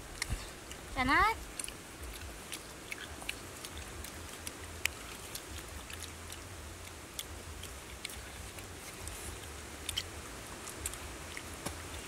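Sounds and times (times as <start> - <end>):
close chewing: 0.0 - 12.0
low steady rumble: 0.0 - 12.0.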